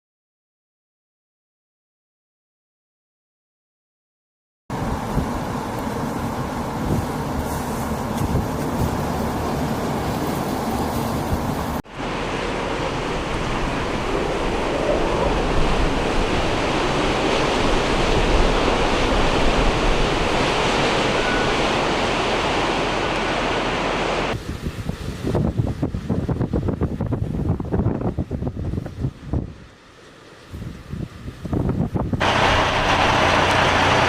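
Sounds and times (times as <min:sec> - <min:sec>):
rushing wind: 0:04.7 - 0:34.0.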